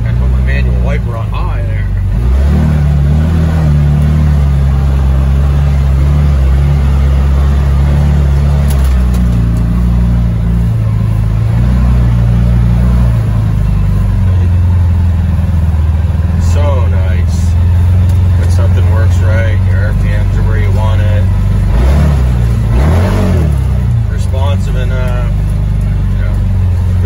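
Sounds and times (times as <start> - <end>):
side-by-side engine running under load: 0.0 - 27.0.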